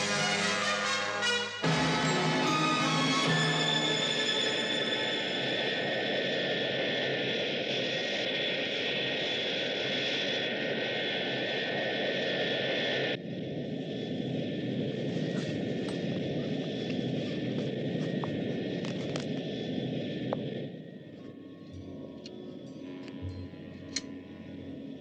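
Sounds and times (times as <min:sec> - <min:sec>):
flight deck hum: 0:00.0 - 0:25.0
jet engine with high whine: 0:00.0 - 0:25.0.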